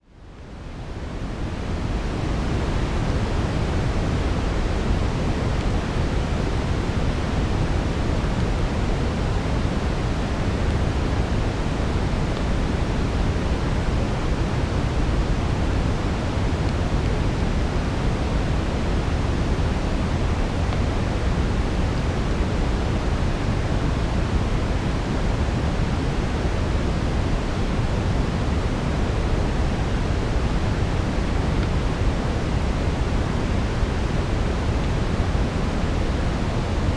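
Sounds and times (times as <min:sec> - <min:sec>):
deep brown noise hiss: 0:00.1 - 0:36.9.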